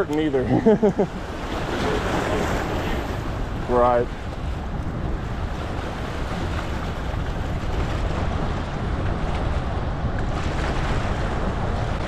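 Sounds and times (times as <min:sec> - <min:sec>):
floodwater churning below spillway: 0:00.0 - 0:12.0
wind buffeting microphone: 0:00.0 - 0:12.0.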